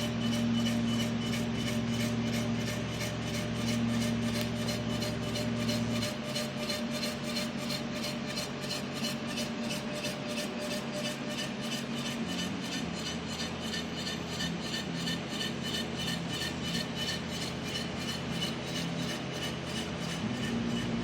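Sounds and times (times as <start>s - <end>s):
machine hum with fast pulsing: 0.0s - 21.0s.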